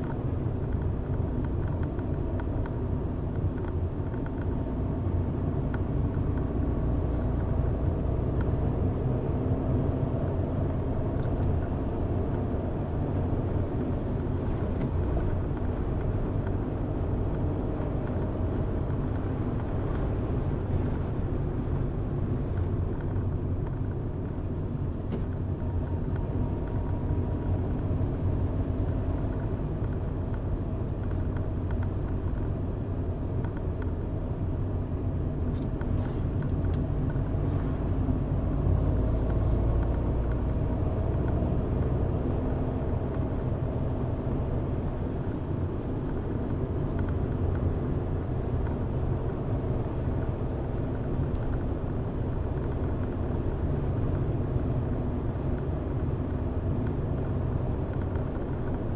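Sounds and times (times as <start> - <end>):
car driving on road: 0.0 - 58.9.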